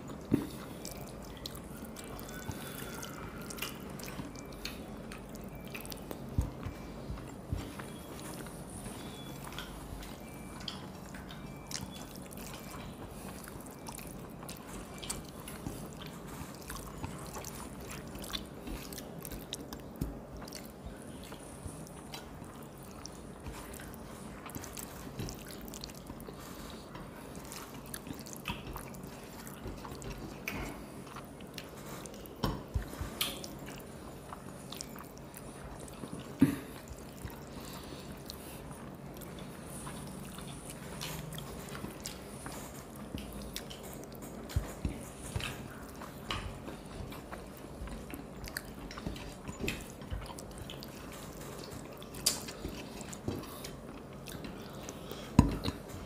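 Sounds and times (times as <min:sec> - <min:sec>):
people chewing: 0:00.0 - 0:56.0
steady low hum: 0:00.0 - 0:56.0.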